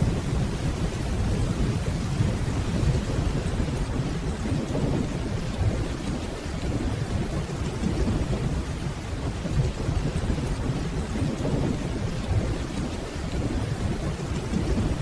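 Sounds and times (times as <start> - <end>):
distant rolling thunder: 0.0 - 15.0
steady rainfall: 0.0 - 15.0.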